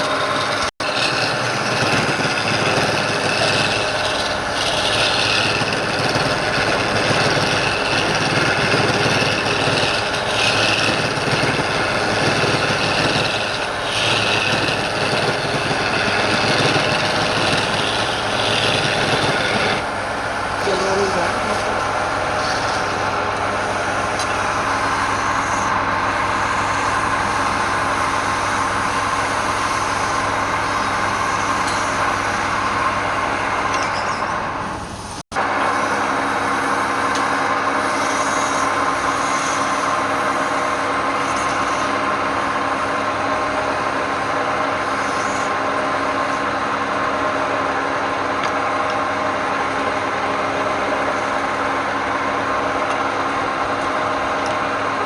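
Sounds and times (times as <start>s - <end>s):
wood lathe humming: 0.0s - 33.8s, 34.4s - 55.0s.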